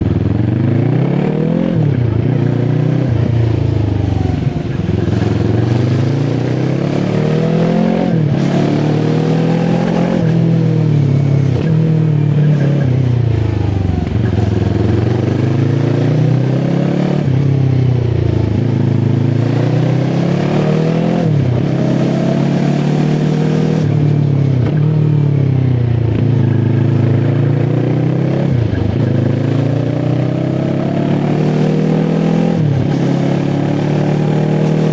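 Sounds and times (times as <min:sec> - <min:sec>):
motorcycle engine revving: 0:00.0 - 0:34.9
road and wind noise: 0:00.0 - 0:34.9.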